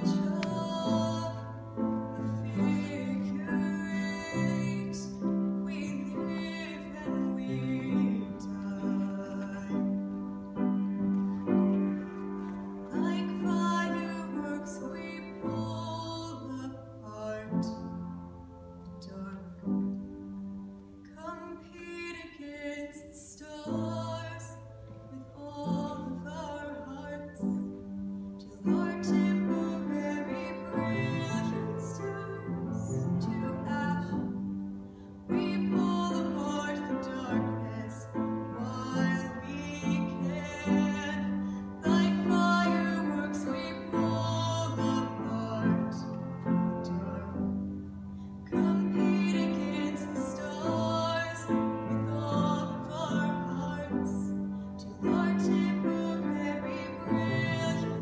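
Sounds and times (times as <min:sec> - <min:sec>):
woman singing: 0:00.0 - 0:10.4, 0:12.8 - 0:18.3, 0:19.0 - 0:20.1, 0:21.1 - 0:27.8, 0:28.4 - 0:34.6, 0:35.3 - 0:47.7, 0:48.4 - 0:58.0
upright piano chords: 0:00.0 - 0:58.0.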